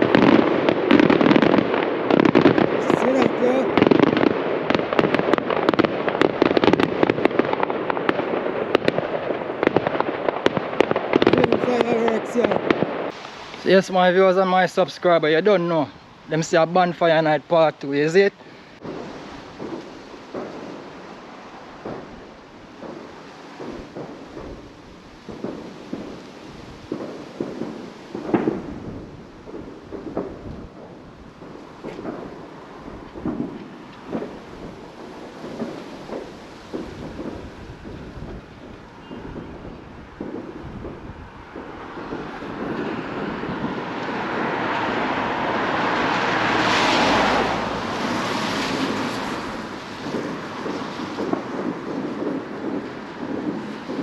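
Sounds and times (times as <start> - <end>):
fireworks popping and crackling: 0.0 - 54.0.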